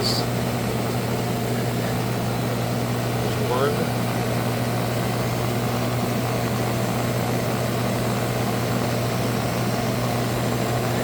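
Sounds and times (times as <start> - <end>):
pump motor humming: 0.0 - 11.0.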